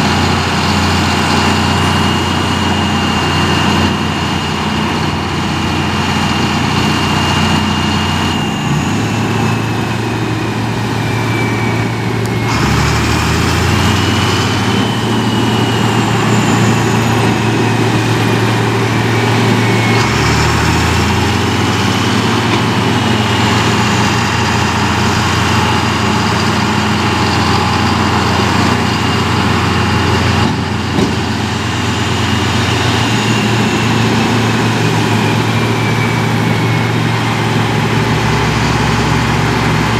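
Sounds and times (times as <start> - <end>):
machine engine humming and whining: 0.0 - 39.9.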